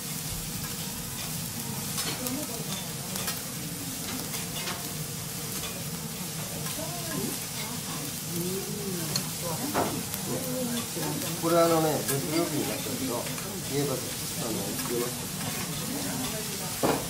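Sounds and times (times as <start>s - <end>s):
fried rice sizzling on a griddle: 0.0s - 17.0s.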